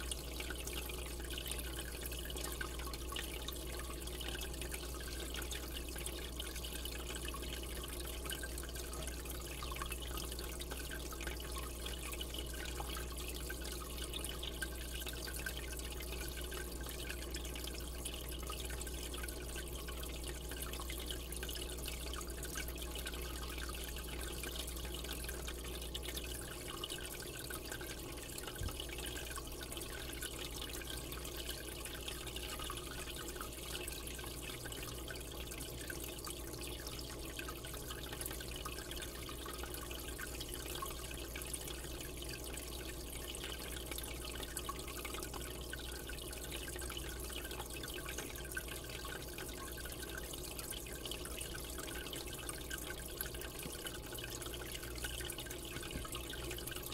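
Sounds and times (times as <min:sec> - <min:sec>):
low steady hum: 0:00.0 - 0:56.9
water dripping: 0:00.0 - 0:56.9
water trickling and splashing: 0:00.0 - 0:56.9.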